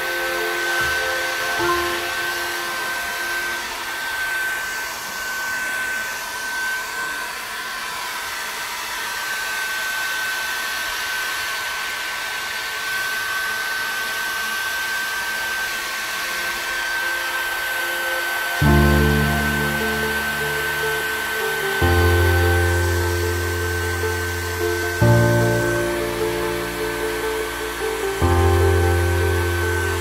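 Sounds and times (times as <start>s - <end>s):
hair dryer whining: 0.0s - 30.0s.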